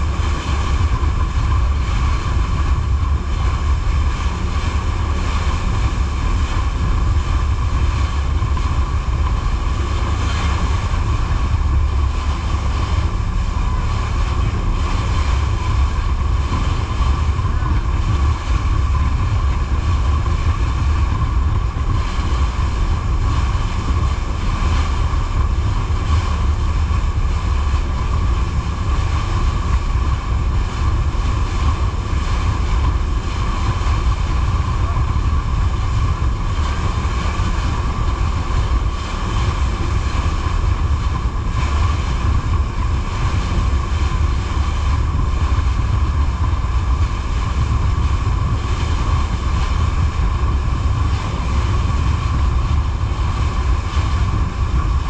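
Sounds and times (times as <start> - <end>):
boat engine drone with whine: 0.0 - 55.0
water rushing past hull: 0.0 - 55.0
wind buffeting microphone: 0.0 - 55.0.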